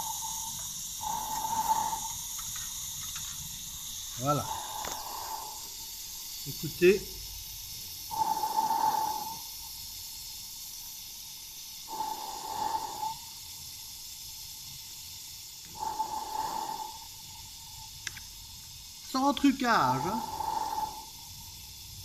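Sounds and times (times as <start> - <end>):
faint constant hiss: 0.0 - 22.0
gas burner whooshing: 0.0 - 22.0.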